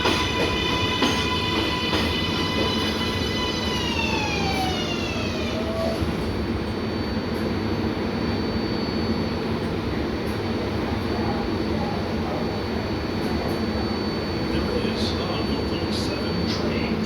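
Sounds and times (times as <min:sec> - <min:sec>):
subway train propulsion whine: 0:00.0 - 0:17.0
train rumbling on rails: 0:00.0 - 0:17.0.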